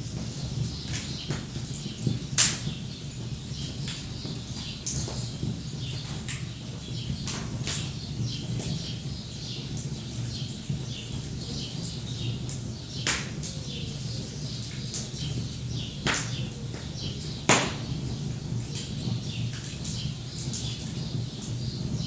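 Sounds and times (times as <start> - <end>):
wood fire crackling and popping: 0.1 - 8.8, 11.8 - 13.6, 14.7 - 22.0
songbirds chirping: 0.3 - 22.0.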